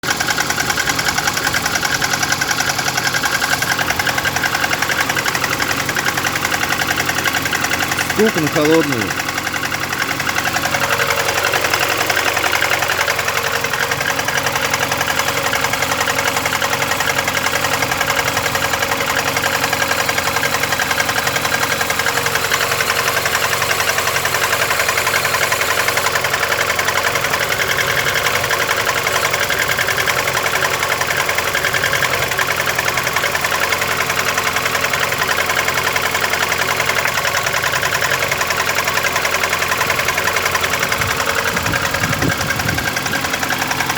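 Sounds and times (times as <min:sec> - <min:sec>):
engine idling: 0:00.0 - 0:43.9
rapid metallic engine knock: 0:00.0 - 0:43.9.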